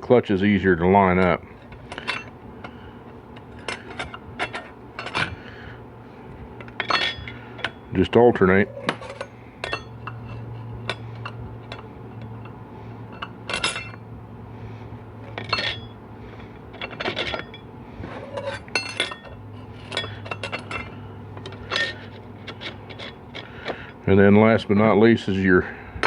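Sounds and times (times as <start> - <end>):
steady low hum: 0.0 - 26.0
metal clutch plates clinking: 1.1 - 5.5, 6.6 - 14.1, 15.1 - 25.4.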